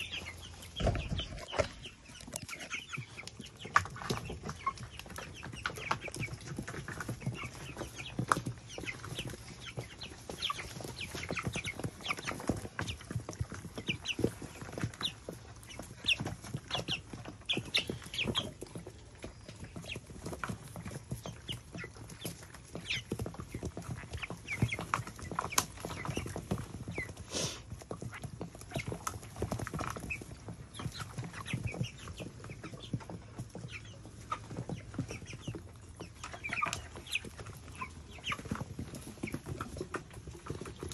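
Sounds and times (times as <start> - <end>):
chicks cheeping and clucking: 0.0 - 40.9.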